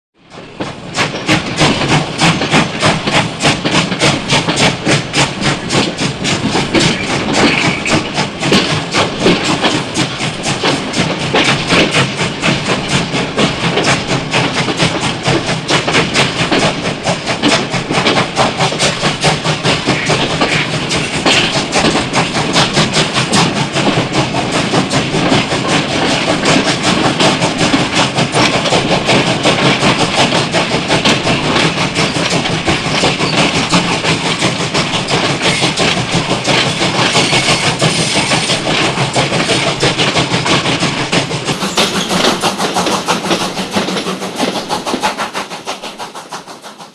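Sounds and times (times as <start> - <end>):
steam train clatter: 0.2 - 46.9.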